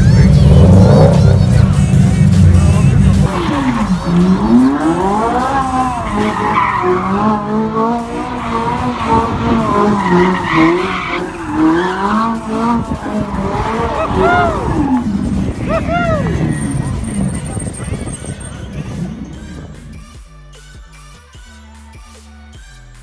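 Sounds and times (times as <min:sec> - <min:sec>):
car engine revving: 0:00.0 - 0:20.0
tyres skidding and squealing: 0:00.0 - 0:20.2.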